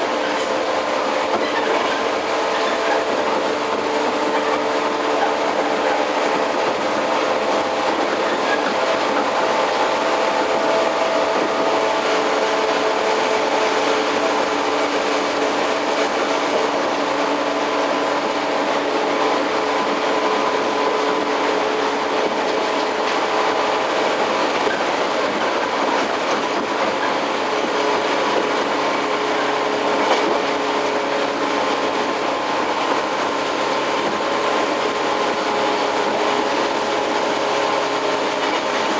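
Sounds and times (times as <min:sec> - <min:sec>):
train rumble and wheel clatter: 0:00.0 - 0:38.9.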